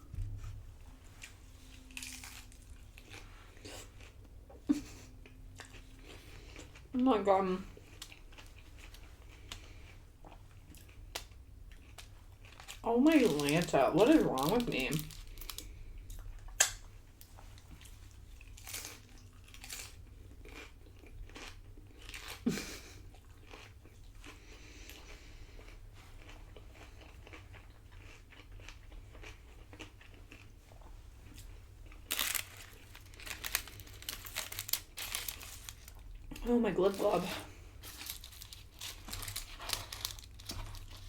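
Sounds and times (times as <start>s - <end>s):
person chewing crunchy chips: 1.0s - 6.9s, 7.8s - 16.8s, 17.6s - 41.0s.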